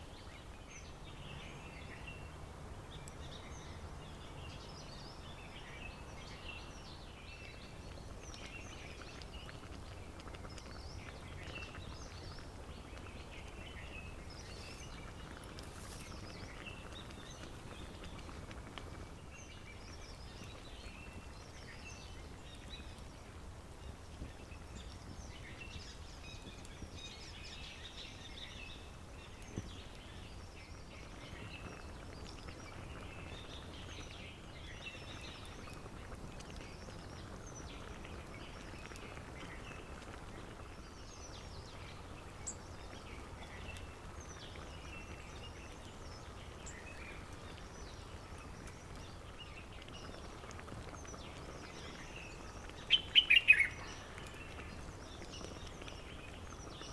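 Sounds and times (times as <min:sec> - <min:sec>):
songbirds chirping and trilling: 0:00.0 - 0:56.9.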